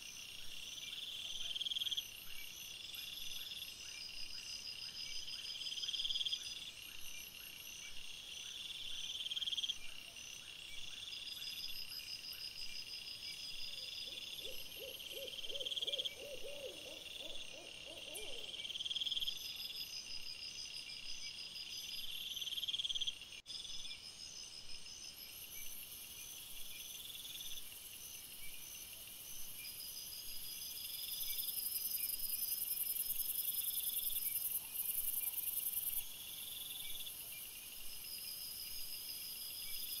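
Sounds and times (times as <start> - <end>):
night insects chirping: 0.0 - 40.0.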